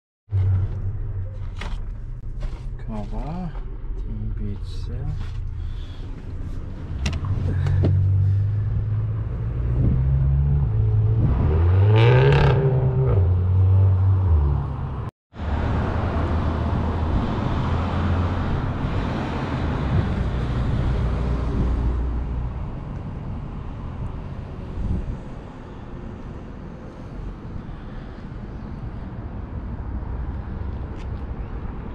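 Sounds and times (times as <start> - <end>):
outdoor noise rushing: 3.5 - 31.9.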